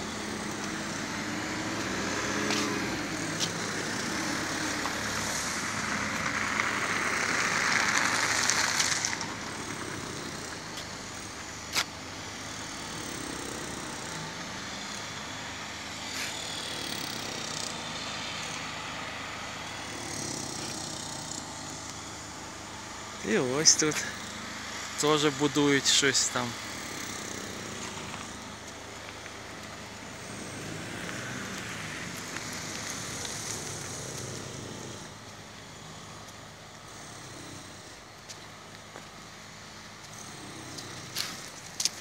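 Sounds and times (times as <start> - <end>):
car passing: 0.0 - 42.0.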